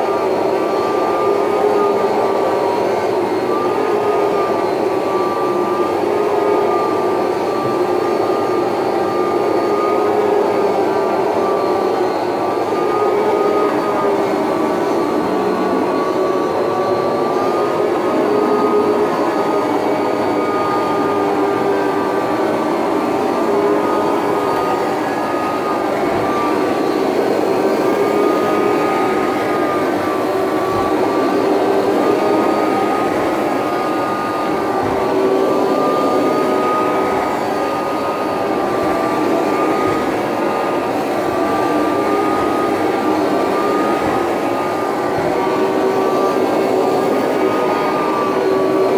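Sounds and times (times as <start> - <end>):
vacuum motor whine: 0.0 - 48.9.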